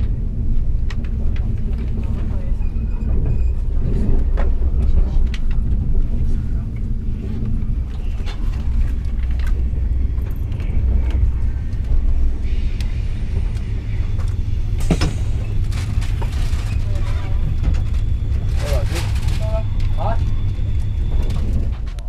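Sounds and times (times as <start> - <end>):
train rumble from inside coach: 0.0 - 22.0.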